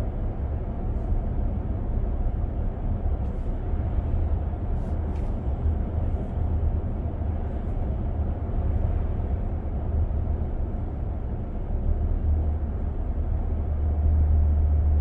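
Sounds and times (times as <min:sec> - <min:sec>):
road and drivetrain rumble: 0:00.0 - 0:15.0.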